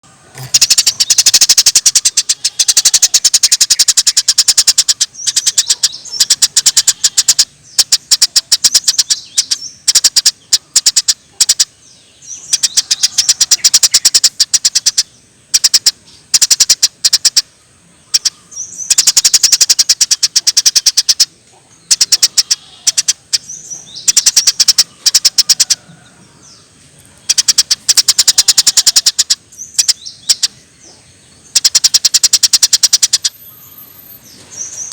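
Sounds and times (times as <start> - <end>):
sparrow chirping: 0.4 - 34.9.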